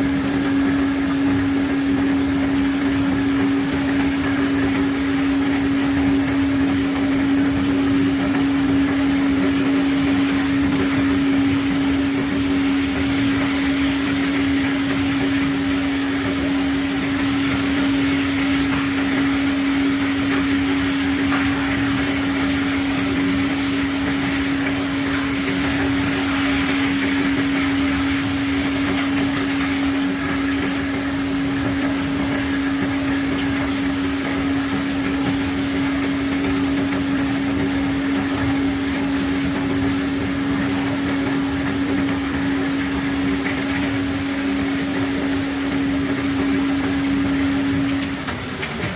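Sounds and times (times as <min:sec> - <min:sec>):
steady hiss: 0:00.0 - 0:48.9
unloading machinery hum: 0:00.0 - 0:48.9.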